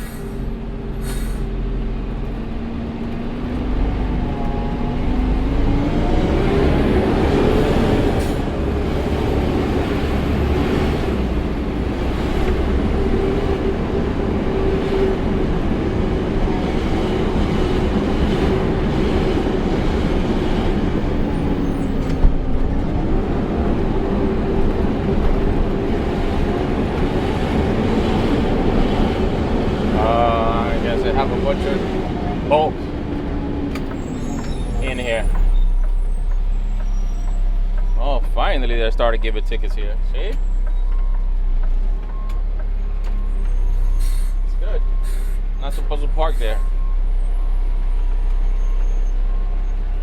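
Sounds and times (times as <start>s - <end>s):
garbage truck diesel rumble: 0.0s - 50.0s.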